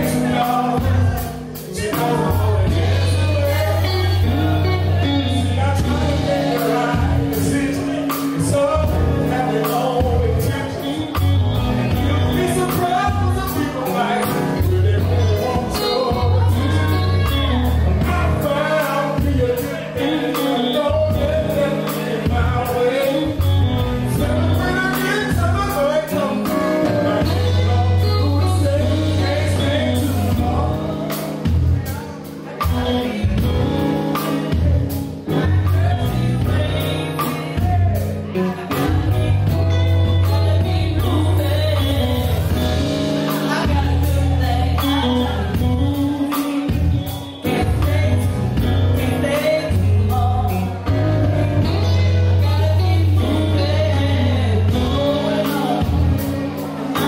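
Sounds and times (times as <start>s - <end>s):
bass line: 0.0s - 57.0s
drums: 0.0s - 57.0s
guitar: 0.0s - 57.0s
man singing into a microphone: 0.0s - 57.0s.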